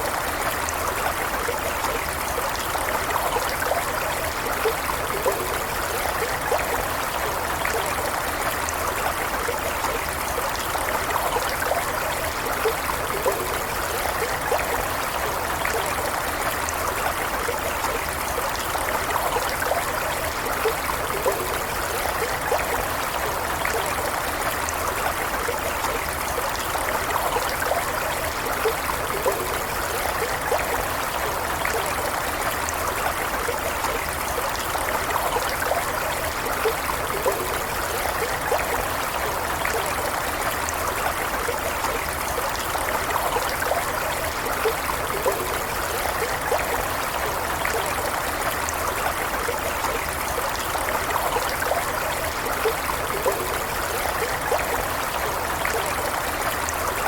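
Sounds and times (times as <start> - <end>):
small stream trickling: 0.0 - 57.0.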